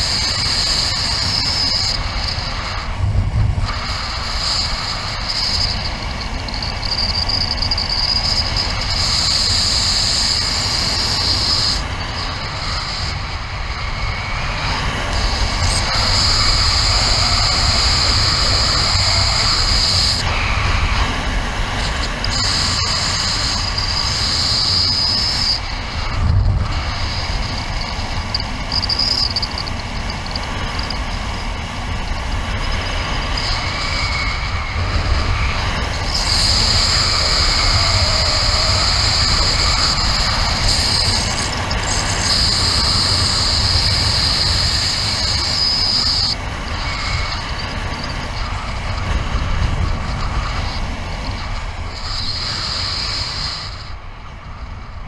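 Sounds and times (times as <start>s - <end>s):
high steady whistle: 0.0s - 3.0s, 3.6s - 54.6s
wind rushing over microphone: 0.0s - 55.0s.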